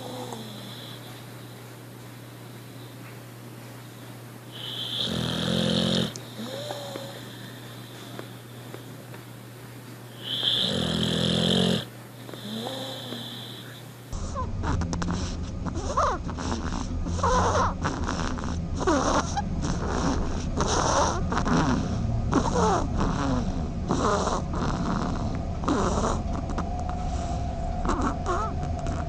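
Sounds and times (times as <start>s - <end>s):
animal snoring with whistle: 0.0s - 1.2s, 4.5s - 8.4s, 10.1s - 29.0s.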